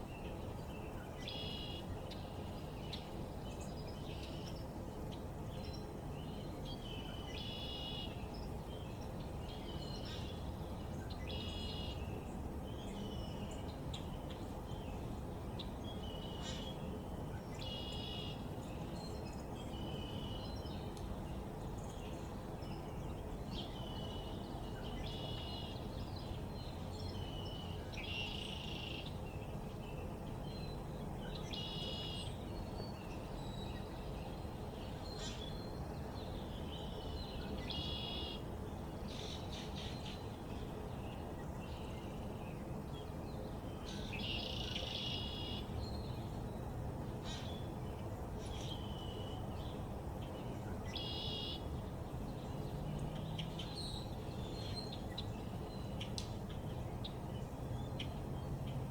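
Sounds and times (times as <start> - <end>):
low background noise: 0.0 - 58.9.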